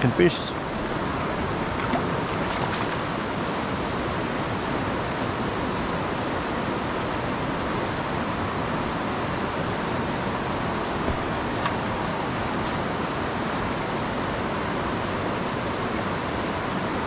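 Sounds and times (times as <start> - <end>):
fast mountain river rushing: 0.0 - 17.0.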